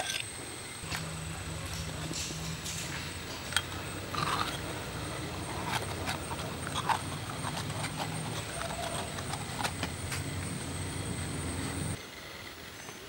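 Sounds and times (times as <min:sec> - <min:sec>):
metallic clicks and scrapes: 0:00.0 - 0:10.5
low background hum: 0:00.0 - 0:13.0.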